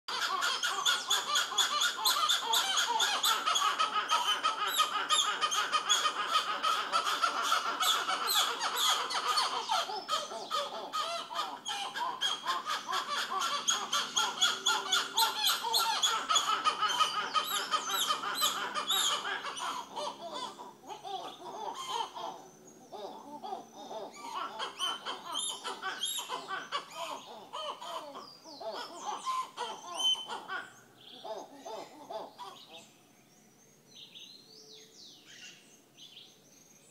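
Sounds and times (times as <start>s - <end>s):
monkeys chattering: 0.1s - 32.9s.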